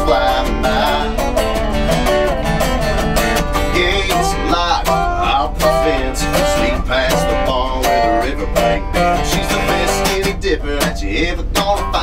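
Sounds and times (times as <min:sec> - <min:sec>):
acoustic guitar: 0:00.0 - 0:12.0
resonator guitar: 0:00.0 - 0:12.0.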